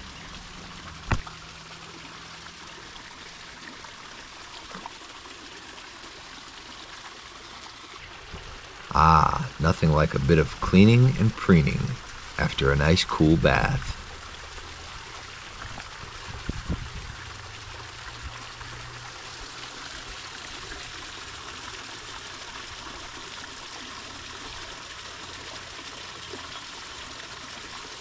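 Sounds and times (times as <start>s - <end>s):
fountain water trickling: 0.0s - 28.0s.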